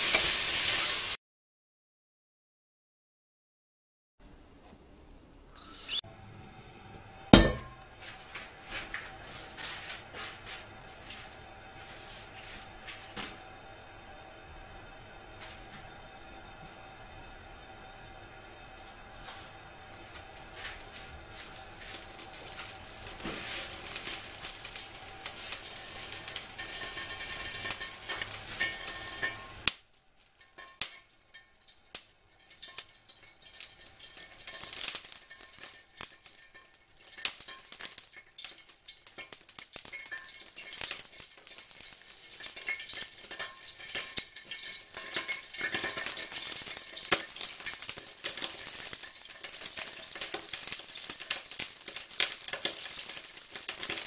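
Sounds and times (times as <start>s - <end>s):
oil and water sizzling in wok: 0.0s - 1.2s, 5.6s - 54.0s.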